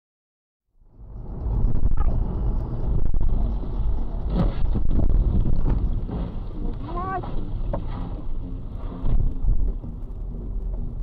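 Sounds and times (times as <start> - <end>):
road and engine rumble: 0.8 - 11.0.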